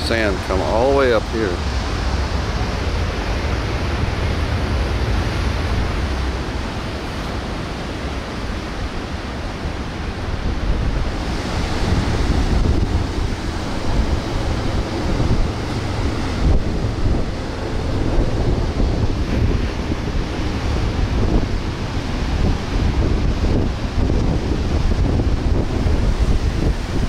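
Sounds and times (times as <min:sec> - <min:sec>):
ocean surf: 0:00.0 - 0:27.0
wind buffeting microphone: 0:00.0 - 0:27.0.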